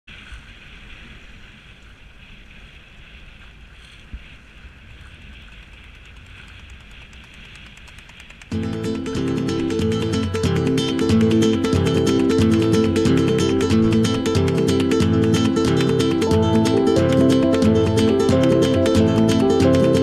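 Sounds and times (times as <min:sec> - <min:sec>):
wind buffeting microphone: 0:00.1 - 0:19.9.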